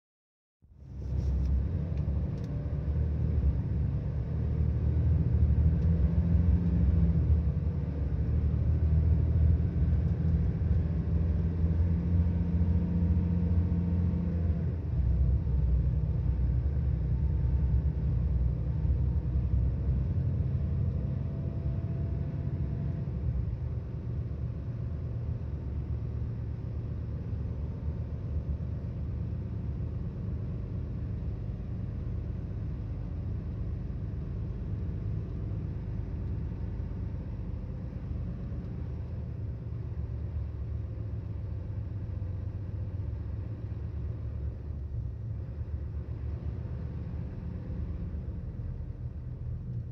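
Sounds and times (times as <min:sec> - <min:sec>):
bus diesel engine rumble: 0:00.6 - 0:49.9.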